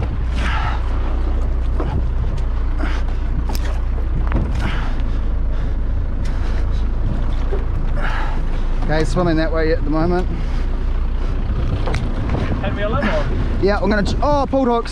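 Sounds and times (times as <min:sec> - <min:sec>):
wind noise: 0:00.0 - 0:09.6, 0:10.8 - 0:14.9
boat engine rumbling: 0:00.0 - 0:14.9.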